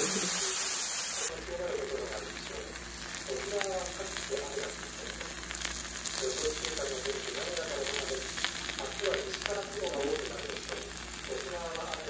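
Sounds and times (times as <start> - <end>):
noodles sizzling on a griddle: 0.0 - 12.0.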